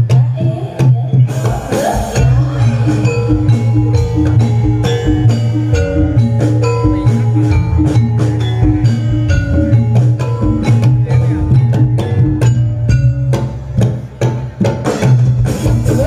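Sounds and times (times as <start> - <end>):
gamelan metal mallet melody: 0.0 - 16.0.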